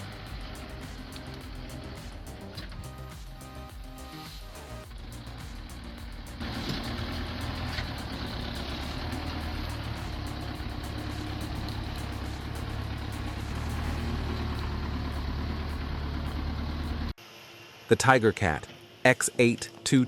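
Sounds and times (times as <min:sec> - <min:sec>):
heavy vehicle engine running: 0:00.0 - 0:17.2.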